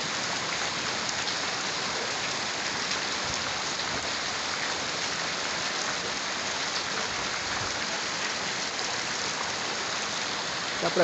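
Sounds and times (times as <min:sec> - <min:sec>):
steady rain hissing: 0:00.0 - 0:11.0
storm water running in street: 0:00.0 - 0:11.0.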